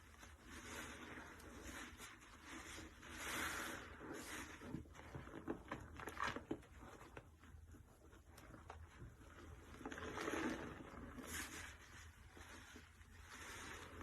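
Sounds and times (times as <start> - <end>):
soapy sponge squelching: 0.0 - 14.0.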